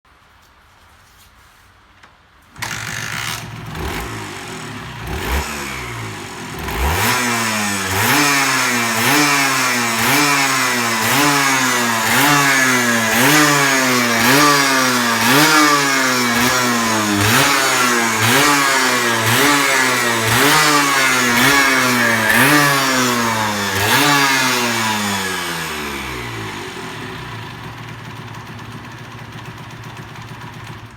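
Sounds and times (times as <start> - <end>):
motorcycle engine revving: 2.6 - 30.9.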